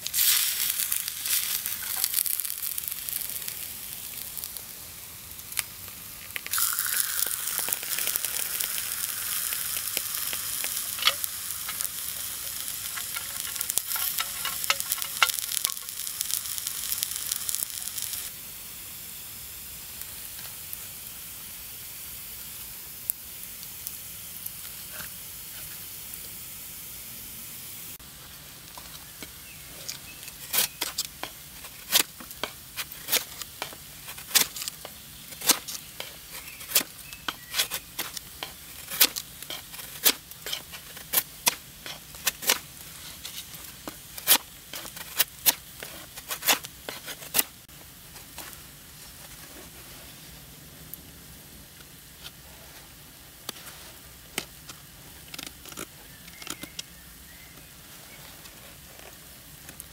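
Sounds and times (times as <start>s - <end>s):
oil sizzling in a frying pan: 0.0s - 49.0s
meat frying with crackling pops: 0.0s - 49.2s, 50.2s - 59.9s
faint steady hiss: 0.0s - 59.9s.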